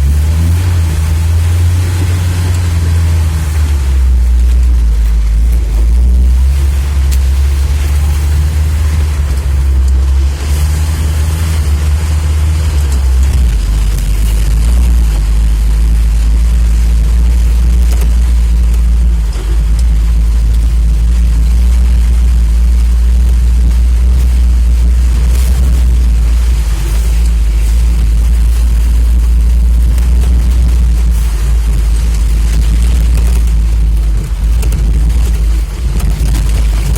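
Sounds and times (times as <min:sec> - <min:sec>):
off-road vehicle engine droning: 0:00.0 - 0:36.9
road noise: 0:00.0 - 0:36.9.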